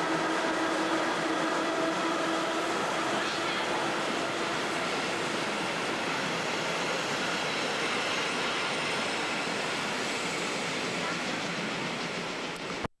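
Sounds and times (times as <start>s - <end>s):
train wheels rushing on rails: 0.0s - 12.9s.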